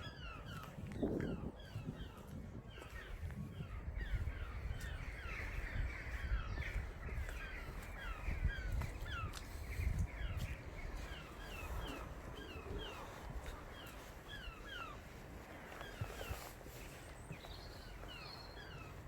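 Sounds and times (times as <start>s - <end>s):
flock of birds calling: 0.0s - 19.0s.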